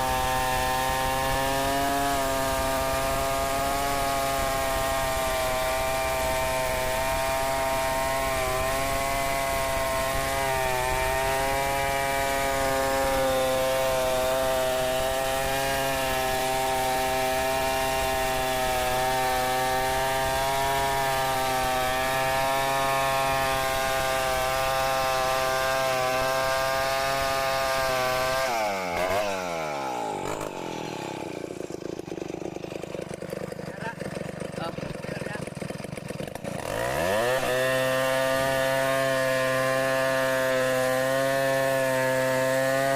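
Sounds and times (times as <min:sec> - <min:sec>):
chainsaw cutting a log: 0:00.0 - 0:42.9.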